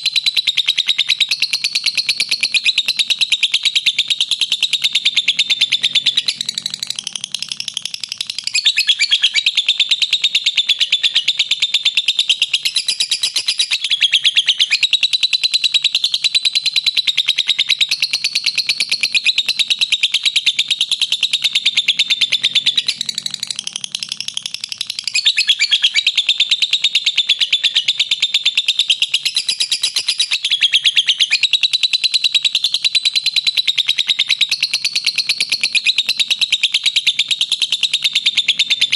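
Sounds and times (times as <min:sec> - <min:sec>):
lovebird rapid shrill chatter: 0:00.1 - 0:15.5, 0:16.1 - 0:32.0.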